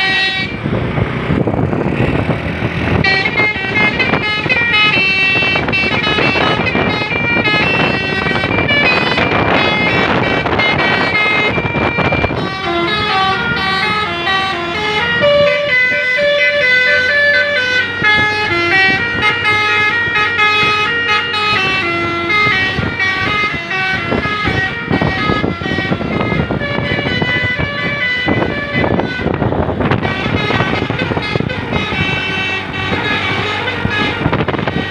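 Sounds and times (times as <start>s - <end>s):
multi-tone bus air horn tune: 0.0s - 0.8s, 2.0s - 34.9s.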